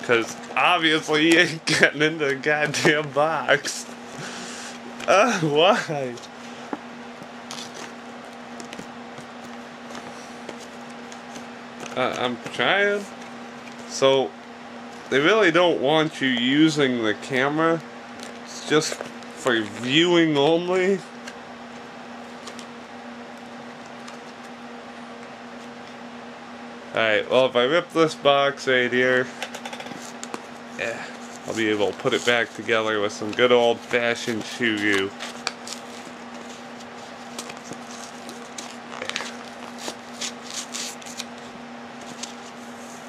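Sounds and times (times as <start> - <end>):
electrical hum with hiss: 0.0 - 43.0.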